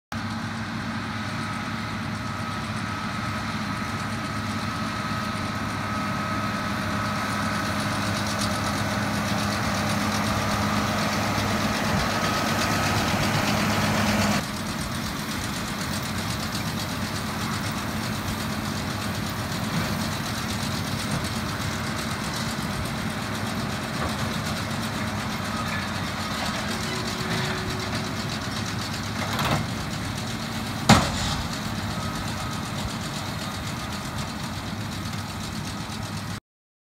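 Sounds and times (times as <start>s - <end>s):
tractor engine running: 0.1s - 36.4s.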